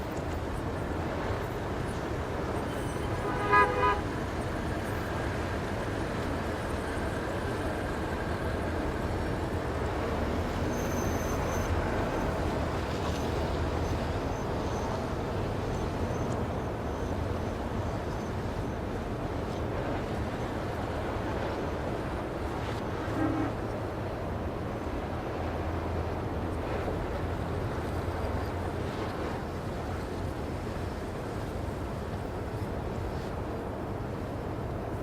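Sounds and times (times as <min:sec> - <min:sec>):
low rumble of city traffic: 0:00.0 - 0:35.0.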